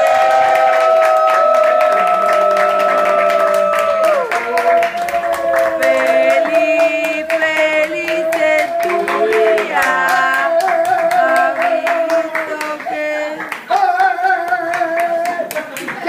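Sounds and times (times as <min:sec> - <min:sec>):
group singing: 0:00.0 - 0:15.2
people clapping: 0:00.0 - 0:16.0.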